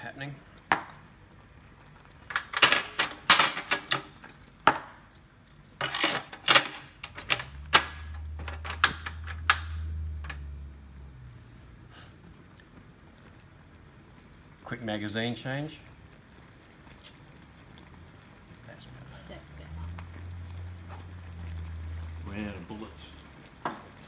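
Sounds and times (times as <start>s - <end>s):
gas burner rumble: 0.0s - 24.0s.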